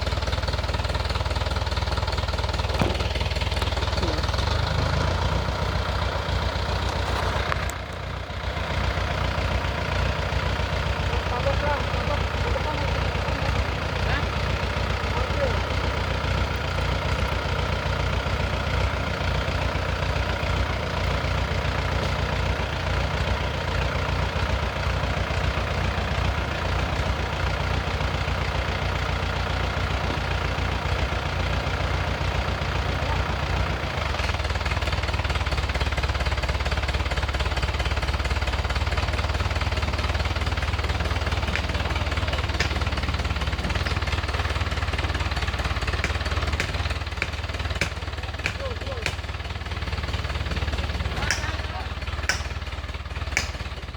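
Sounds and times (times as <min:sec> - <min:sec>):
engine knocking and clattering: 0:00.0 - 0:53.9.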